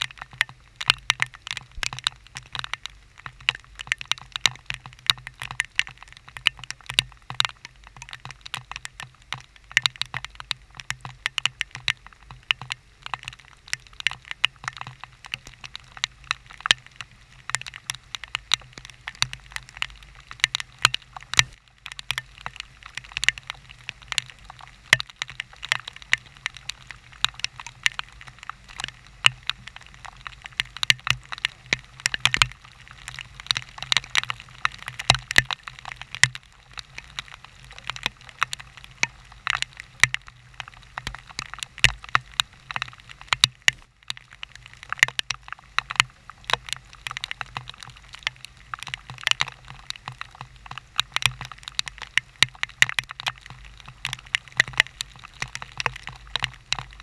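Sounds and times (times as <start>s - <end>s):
raindrops ticking near microphone: 0.0s - 57.0s.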